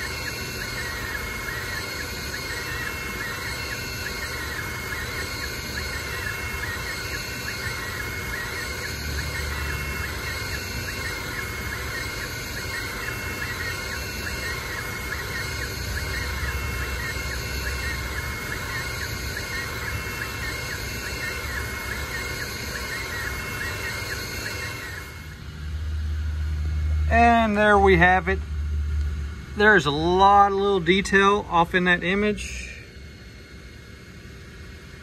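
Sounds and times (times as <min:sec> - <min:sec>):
steady hum: 0:00.0 - 0:35.0
stepper motors whining: 0:00.0 - 0:35.0.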